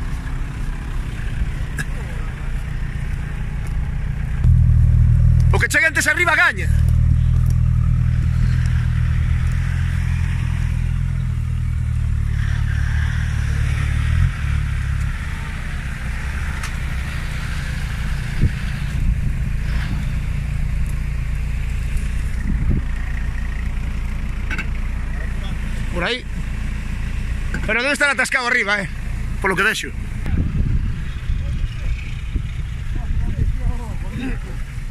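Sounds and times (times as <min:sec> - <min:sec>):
off-road vehicle engine under load: 0:00.0 - 0:34.9.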